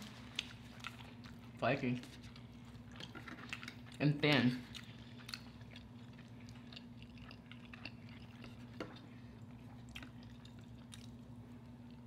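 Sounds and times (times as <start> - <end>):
chewing and mouth clicks: 0.0 - 12.0
steady low hum: 0.0 - 12.0.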